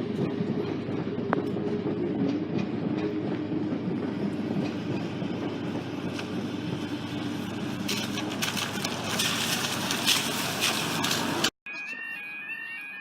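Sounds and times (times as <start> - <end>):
train passing: 0.0 - 11.5.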